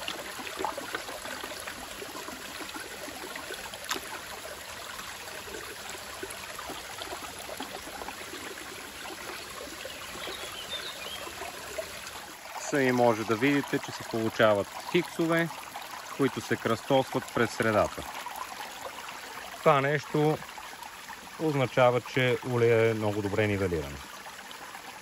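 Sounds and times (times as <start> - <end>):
creek water trickling: 0.0 - 25.0.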